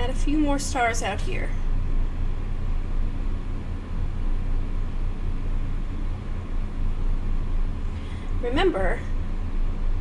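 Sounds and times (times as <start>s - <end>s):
low hum and rumble: 0.0s - 10.0s.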